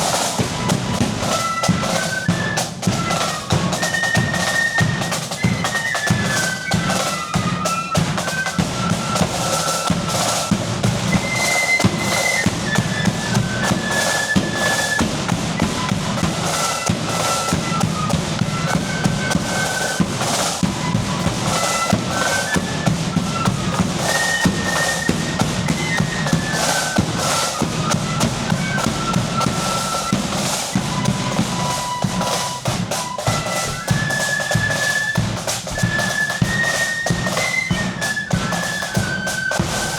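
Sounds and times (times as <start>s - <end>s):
flutes playing melody: 0.0s - 39.9s
snare drum rolls: 0.0s - 39.9s.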